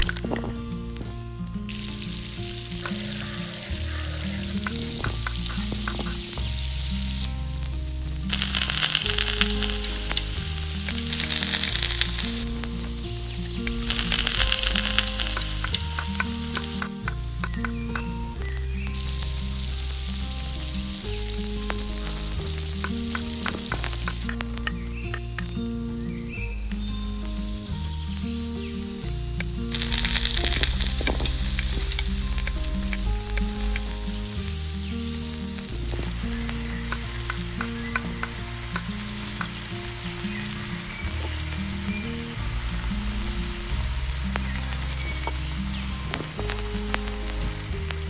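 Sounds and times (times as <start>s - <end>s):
food sizzling in hot oil: 1.7s - 48.0s.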